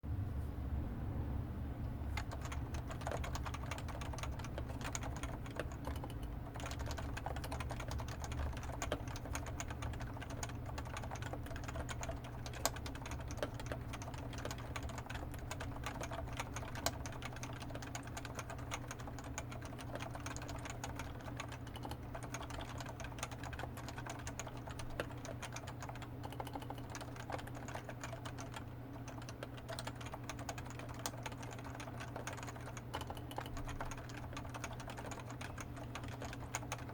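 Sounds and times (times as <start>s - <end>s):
fast typing on keyboard: 2.1s - 36.9s.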